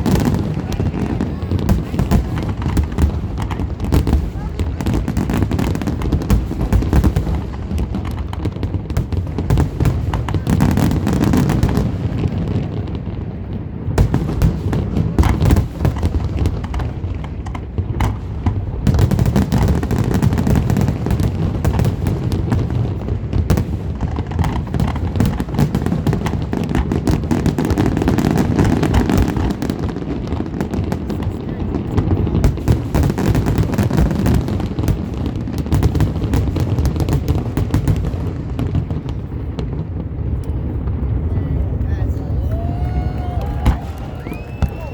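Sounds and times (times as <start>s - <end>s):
fireworks bursts and crackling: 0.0s - 44.9s.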